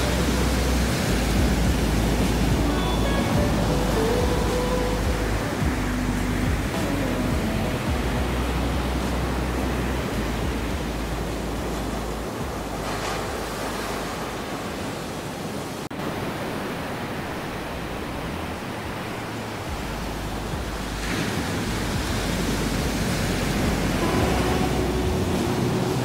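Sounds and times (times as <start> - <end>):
ocean surf on sandy beach: 0.0 - 26.0.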